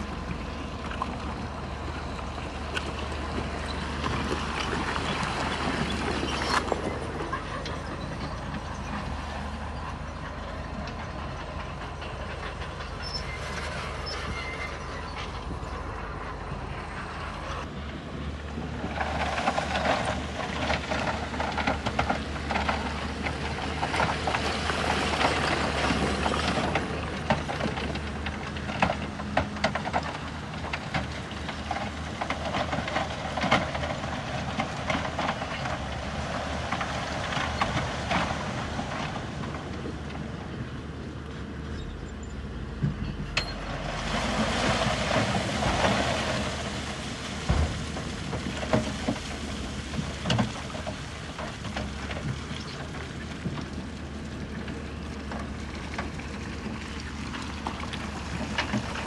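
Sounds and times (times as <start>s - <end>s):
bulldozer engine running: 0.0s - 59.0s
clanking and crunching of tracks: 0.0s - 59.0s.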